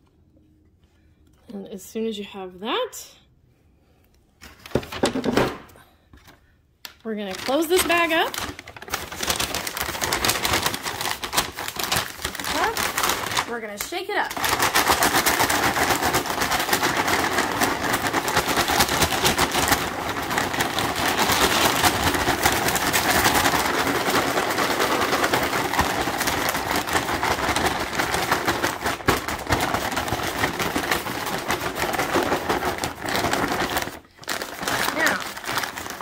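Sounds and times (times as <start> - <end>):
popcorn rattling in shaken bag: 7.0 - 36.0.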